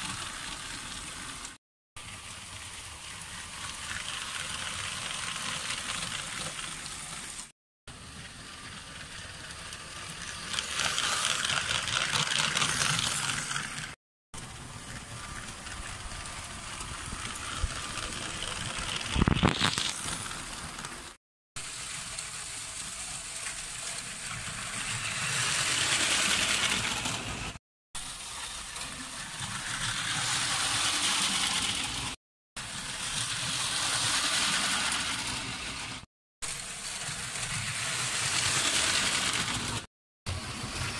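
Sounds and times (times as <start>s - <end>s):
toy train rolling rattle: 0.0s - 1.5s, 2.5s - 14.0s, 14.6s - 19.2s, 21.6s - 40.9s.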